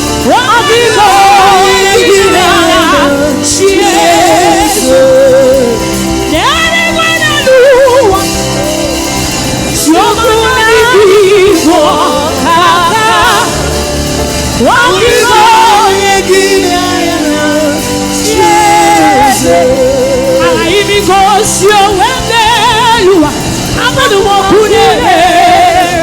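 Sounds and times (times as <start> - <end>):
band sustained chords: 0.0 - 26.0
woman singing with vibrato: 0.0 - 26.0.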